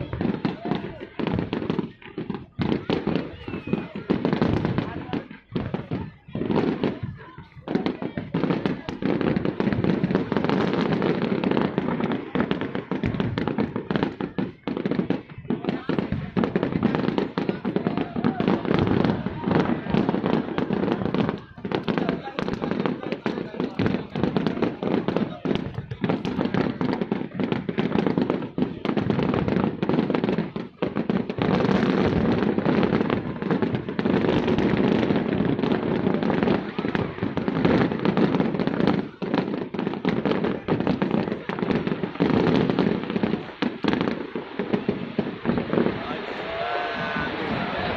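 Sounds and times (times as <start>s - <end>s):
fireworks crackling and popping: 0.0s - 47.9s.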